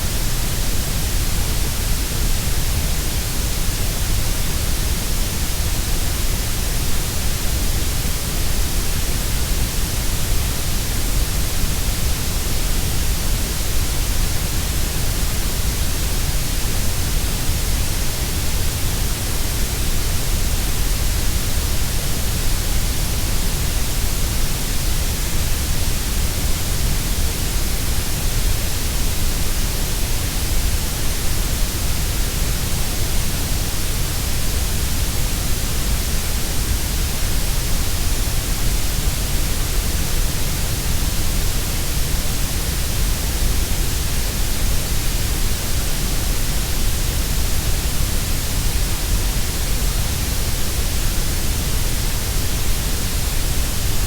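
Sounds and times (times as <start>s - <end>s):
steady grey noise hiss: 0.0s - 54.0s.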